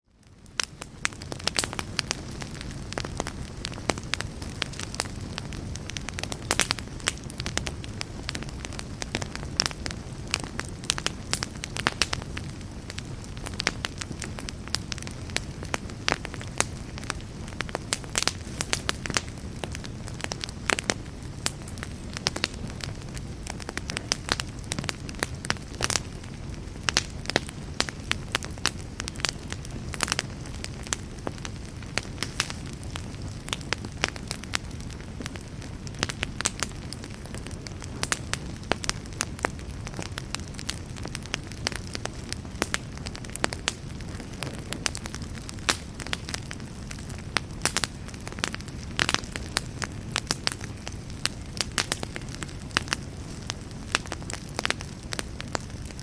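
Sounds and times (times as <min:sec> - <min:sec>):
fire crackles and pops: 0:00.0 - 0:56.0
campfire flames rushing: 0:00.1 - 0:56.0.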